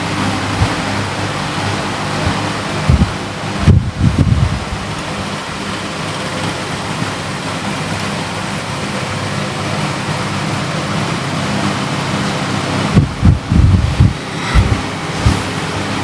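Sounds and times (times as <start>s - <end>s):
machine running with hiss and hum: 0.0s - 16.0s.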